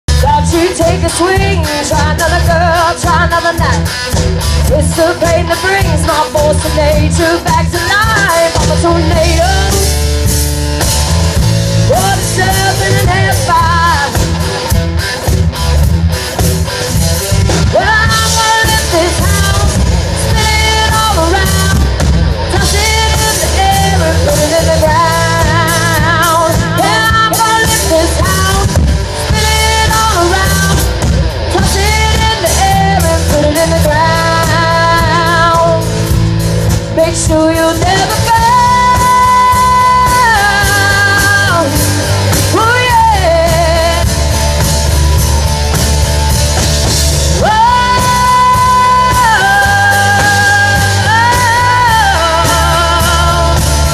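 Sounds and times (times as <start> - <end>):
rock band playing: 0.0 - 53.9
person singing: 0.1 - 10.0, 11.8 - 14.4, 17.5 - 36.1, 36.9 - 45.2, 47.3 - 53.9.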